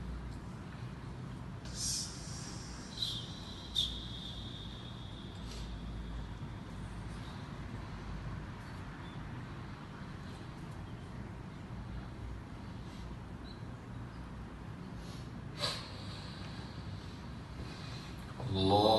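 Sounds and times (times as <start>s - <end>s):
low room hum and hiss: 0.0s - 18.9s.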